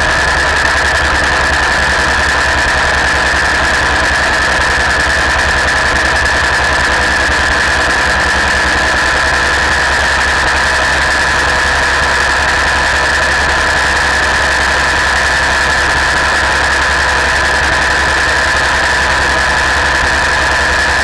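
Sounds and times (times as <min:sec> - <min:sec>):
aircraft engine and propeller drone: 0:00.0 - 0:21.0.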